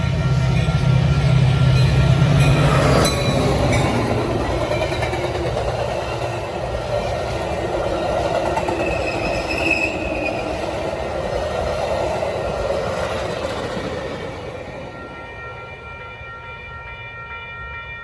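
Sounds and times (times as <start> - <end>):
diesel train engine drone: 0.0 - 18.0.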